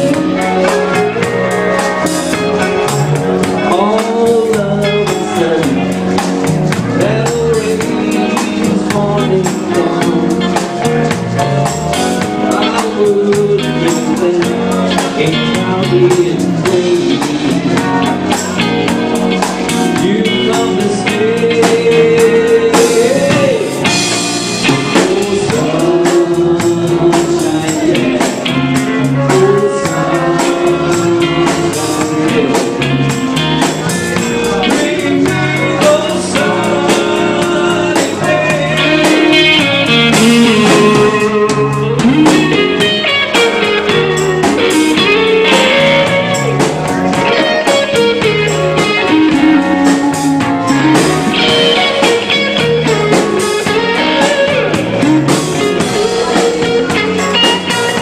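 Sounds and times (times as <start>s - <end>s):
electric lead guitar bending notes: 0.0s - 58.0s
live latin rock band: 0.0s - 58.0s.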